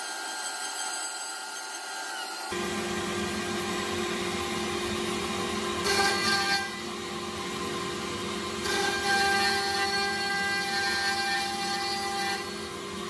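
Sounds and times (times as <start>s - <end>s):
bit milling chipboard: 0.0s - 13.0s
router spindle whine: 0.0s - 13.0s.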